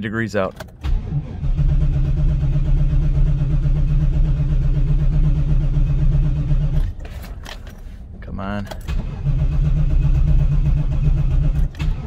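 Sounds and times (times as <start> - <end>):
car engine cranking: 0.4 - 8.0, 8.6 - 12.0.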